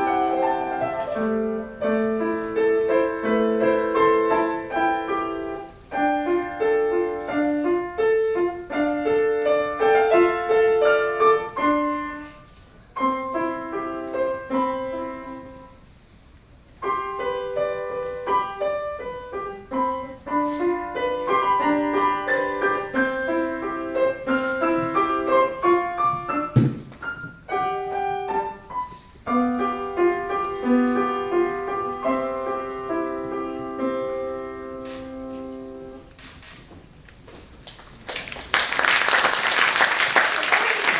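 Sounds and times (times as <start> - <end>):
solo piano: 0.0 - 16.0, 16.7 - 36.1.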